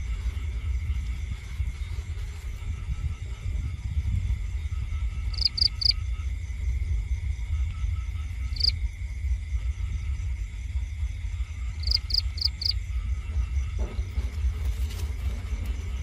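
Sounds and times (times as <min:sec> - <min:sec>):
constant low rumble: 0:00.0 - 0:16.0
crickets trilling: 0:00.0 - 0:16.0.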